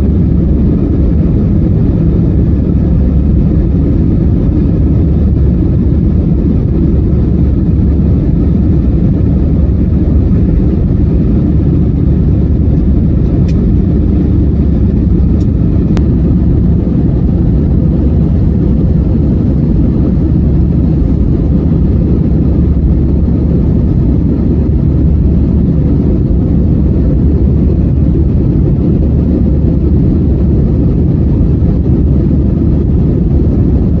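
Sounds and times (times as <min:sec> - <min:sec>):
airliner engines rumbling: 0:00.0 - 0:34.0.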